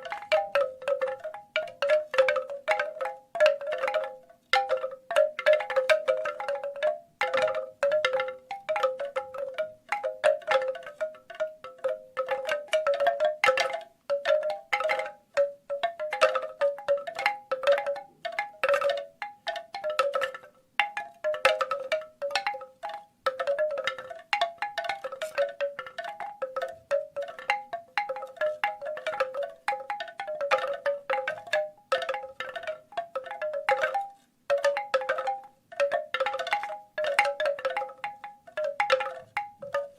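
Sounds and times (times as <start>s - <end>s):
bamboo wind chimes clacking: 0.0s - 39.9s.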